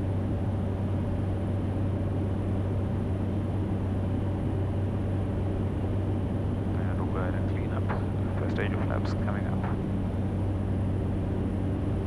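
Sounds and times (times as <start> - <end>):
turboprop engine drone: 0.0 - 12.0.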